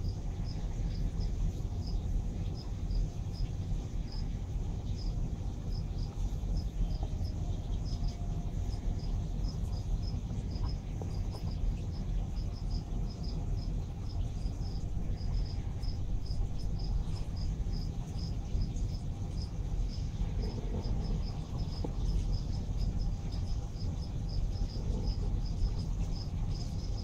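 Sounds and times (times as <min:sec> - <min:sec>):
aquarium equipment humming: 0:00.0 - 0:27.0.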